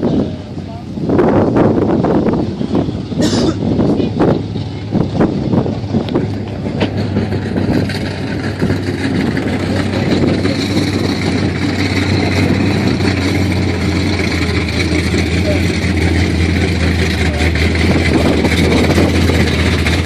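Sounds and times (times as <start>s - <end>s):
vehicle engines droning: 0.0s - 20.0s.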